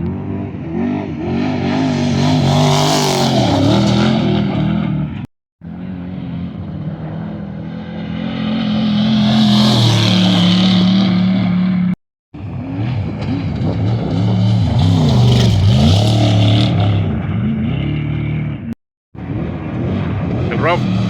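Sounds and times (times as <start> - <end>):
race vehicle engines revving: 0.0 - 21.0.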